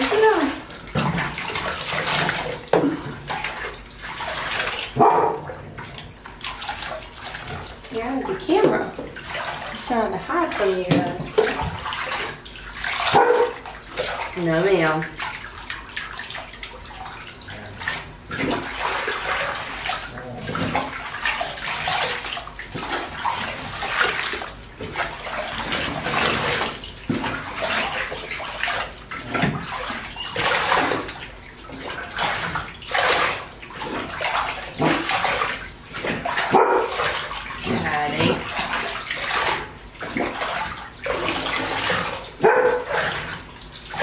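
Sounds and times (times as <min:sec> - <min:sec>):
bath water splashing: 0:00.0 - 0:44.0.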